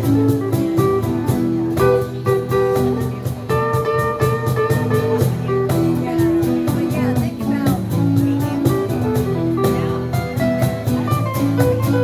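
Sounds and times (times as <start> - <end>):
blues band playing: 0.0 - 12.0
guitar bending notes: 0.0 - 12.0.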